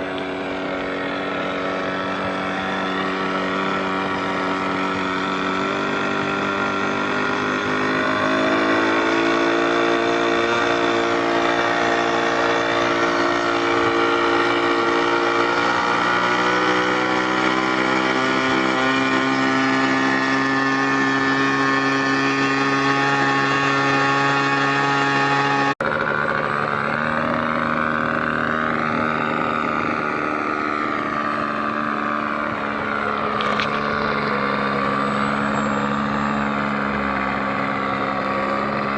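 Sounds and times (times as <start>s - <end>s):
model airplane engine buzzing: 0.0s - 38.9s.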